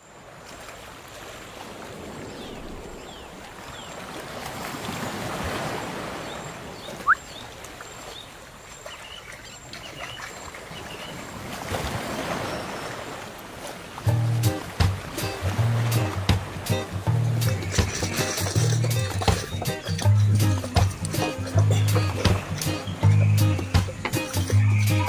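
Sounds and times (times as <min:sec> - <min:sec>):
creek water running and splashing: 0:00.0 - 0:25.0.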